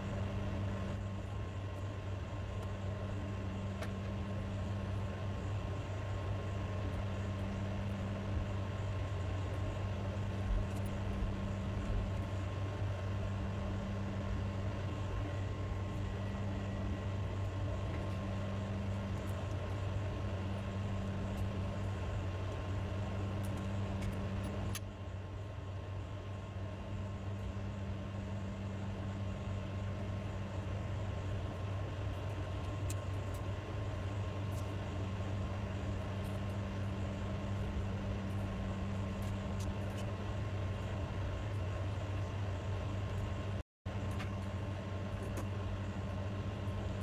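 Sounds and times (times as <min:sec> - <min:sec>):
steady low hum: 0:00.0 - 0:47.0
thin constant tone: 0:00.0 - 0:47.0.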